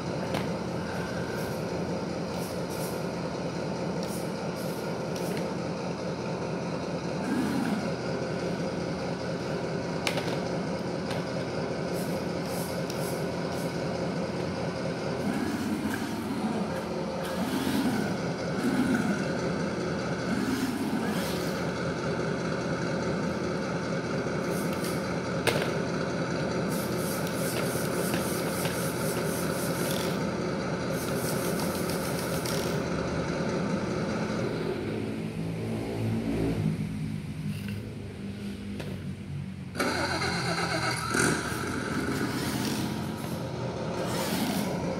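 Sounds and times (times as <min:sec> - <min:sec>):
simulated truck engine revving: 0:00.0 - 0:44.9.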